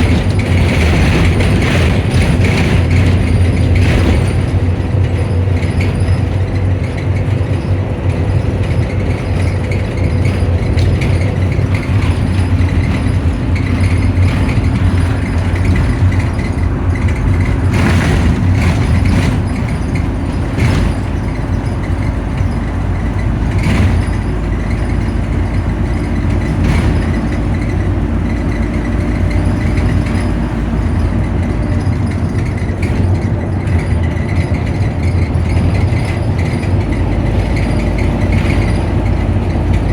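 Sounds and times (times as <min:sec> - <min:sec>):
bus engine idling: 0:00.0 - 0:39.9.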